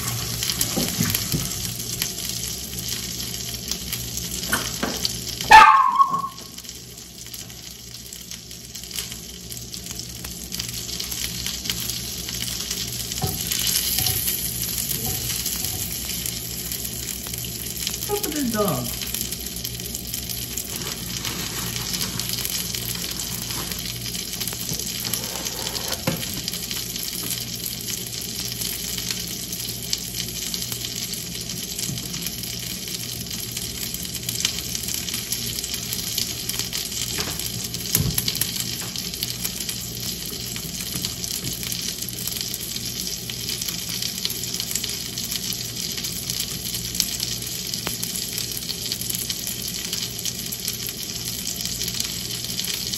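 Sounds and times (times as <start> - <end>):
eggs sizzling in a frying pan: 0.0 - 52.9.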